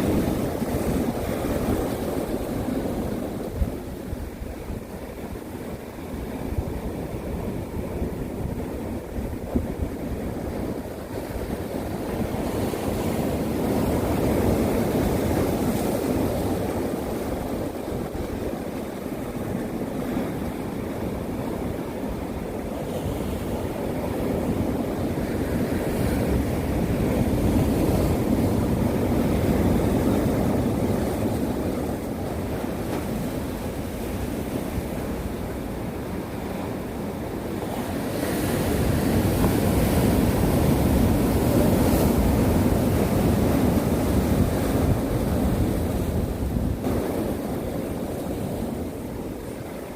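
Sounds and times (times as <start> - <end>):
sea surf washing onto shore: 0.0 - 49.9.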